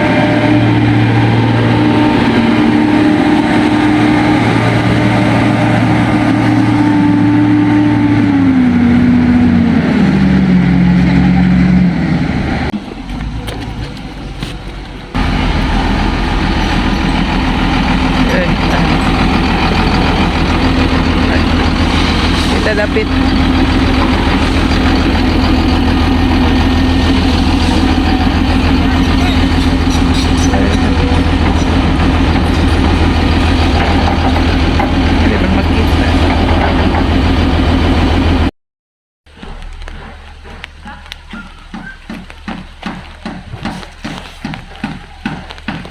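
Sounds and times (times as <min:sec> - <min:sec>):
heavy machine engine running: 0:00.0 - 0:38.5.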